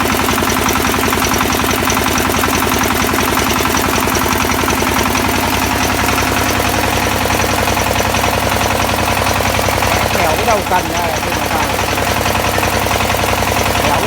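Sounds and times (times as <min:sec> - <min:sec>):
drilling rig engine running: 0:00.0 - 0:14.0.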